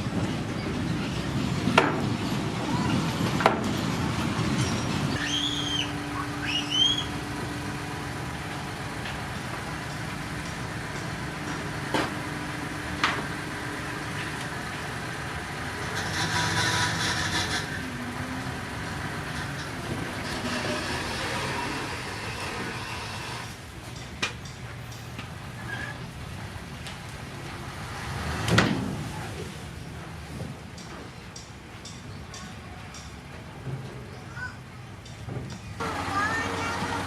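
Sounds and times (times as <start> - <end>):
heavy machinery diesel engines: 0.0 - 37.0.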